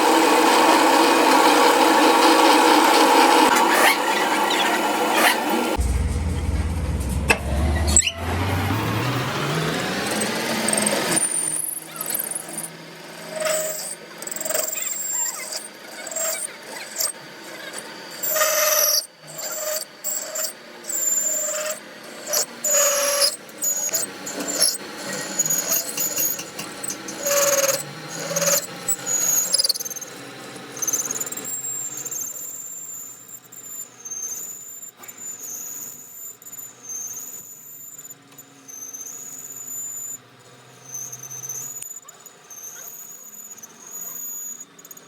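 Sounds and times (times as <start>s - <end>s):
high metal squeal: 0.7s - 45.0s.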